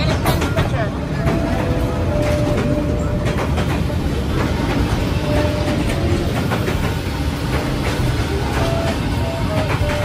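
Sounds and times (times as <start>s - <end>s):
train carriages rumbling: 0.0s - 10.0s
wheels clicking over rail joints: 0.0s - 10.0s.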